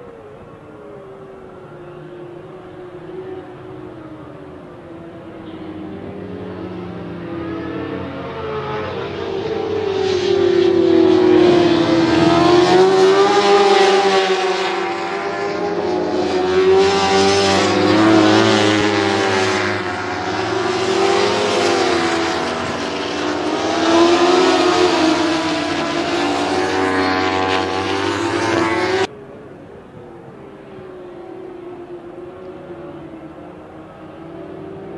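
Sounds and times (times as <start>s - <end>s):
racing motorcycle engines: 0.0s - 34.9s.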